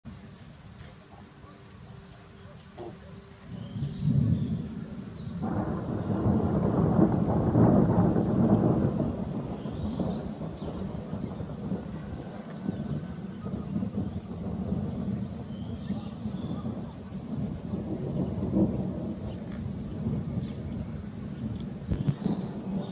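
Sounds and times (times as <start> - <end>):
distant thunder rumbling: 1.8 - 22.9.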